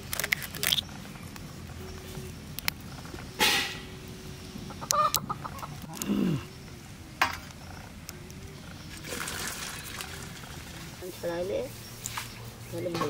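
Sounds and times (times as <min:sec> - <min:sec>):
chickens clucking: 0:00.8 - 0:13.0.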